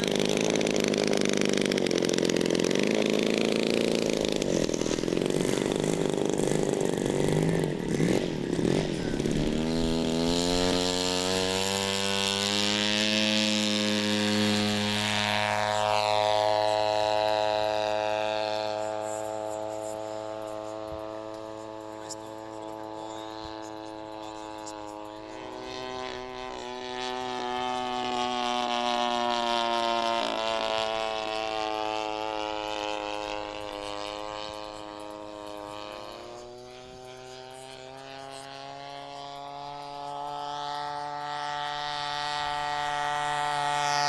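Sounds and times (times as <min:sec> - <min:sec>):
model plane engine and propeller: 0:00.0 - 0:44.0.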